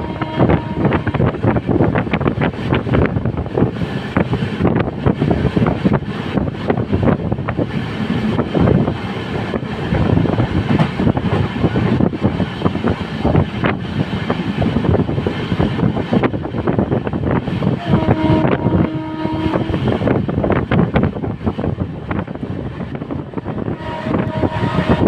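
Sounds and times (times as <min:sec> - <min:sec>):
wheels rumbling on rail: 0:00.0 - 0:25.0
wind buffeting microphone: 0:00.0 - 0:25.0.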